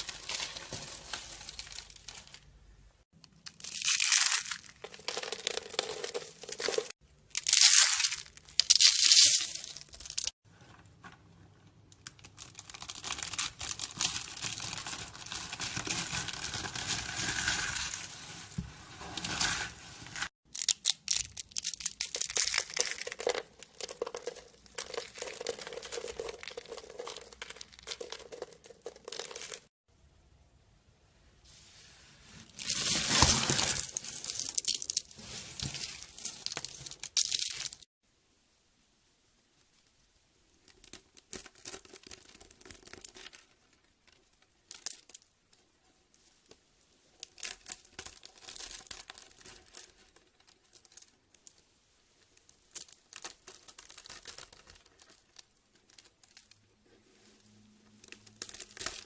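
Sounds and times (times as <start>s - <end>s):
hard soap crackling and crunching: 0.0s - 18.6s, 20.2s - 29.8s, 32.6s - 37.9s, 40.6s - 45.6s, 47.1s - 57.0s, 58.0s - 59.0s.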